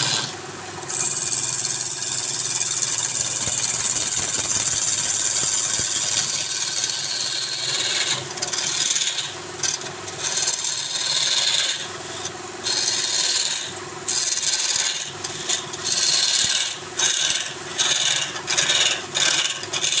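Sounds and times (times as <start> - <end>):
turning tool scraping wood: 0.0 - 3.9, 4.7 - 20.0
lathe humming: 0.0 - 20.0.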